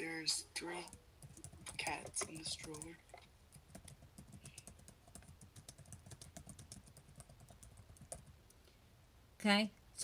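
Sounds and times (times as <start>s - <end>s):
faint keyboard typing: 0.7s - 8.7s.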